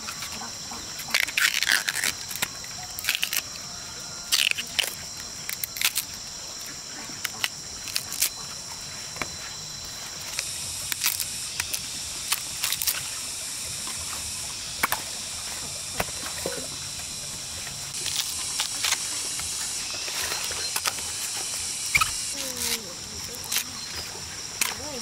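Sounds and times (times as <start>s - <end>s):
bamboo husk tearing: 0.0s - 25.0s
high insect drone: 0.0s - 25.0s.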